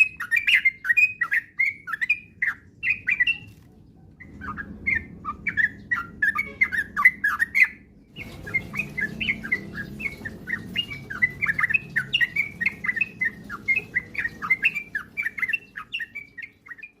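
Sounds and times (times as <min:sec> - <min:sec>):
bird song warbling: 0:00.0 - 0:17.0.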